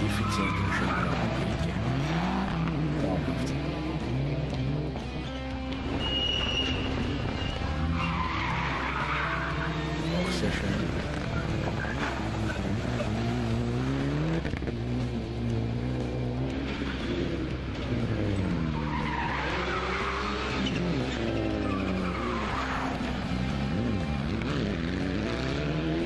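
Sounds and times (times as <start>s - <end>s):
rally car engines revving: 0.0s - 26.0s.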